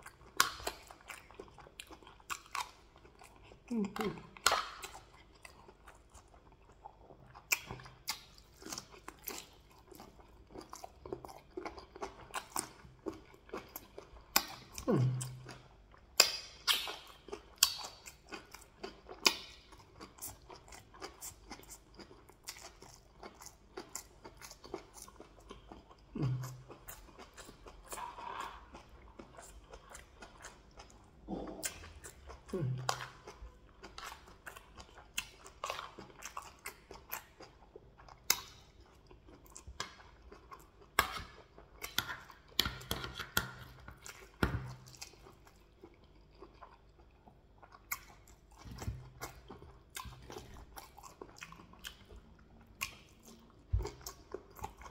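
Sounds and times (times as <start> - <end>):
chewing and crunching food: 0.0 - 54.9.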